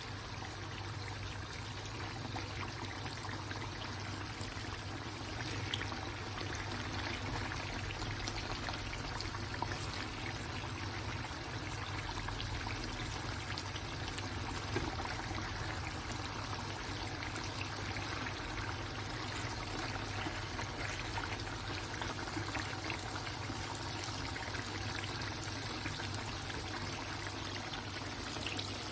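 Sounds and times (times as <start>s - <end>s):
chicken sizzling: 0.0s - 28.9s.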